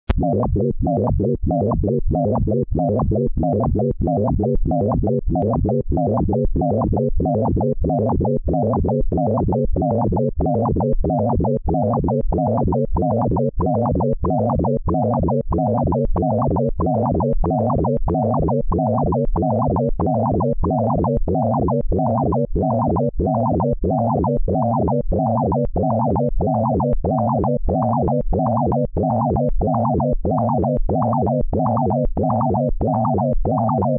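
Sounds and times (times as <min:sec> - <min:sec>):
pulsing electronic tone: 0:00.2 - 0:33.9.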